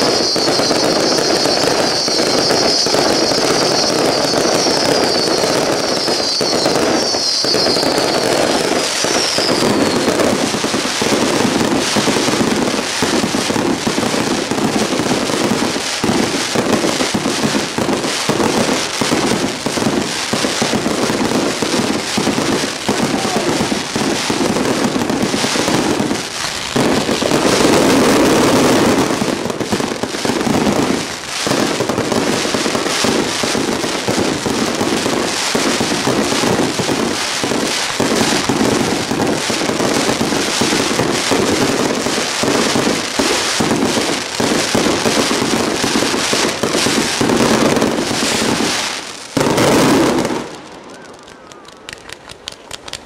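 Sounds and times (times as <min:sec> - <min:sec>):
falling firework whistles: 0:00.0 - 0:53.0
firework shells bursting: 0:00.0 - 0:53.0
fireworks crackling and fizzing: 0:00.0 - 0:53.0.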